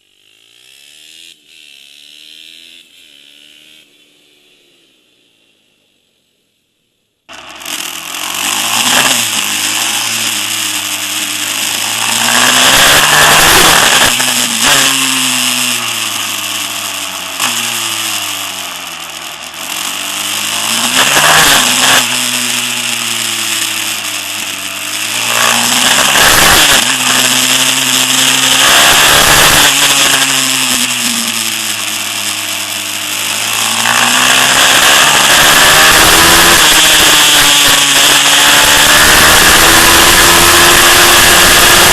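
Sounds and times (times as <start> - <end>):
motorbike engine revving: 0.0 - 5.0, 7.3 - 41.9.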